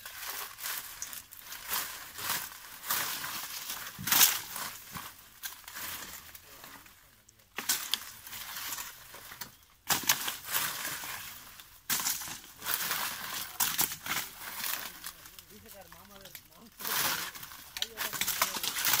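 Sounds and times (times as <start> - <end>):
dry palm leaves rustling and scraping: 0.0 - 19.0.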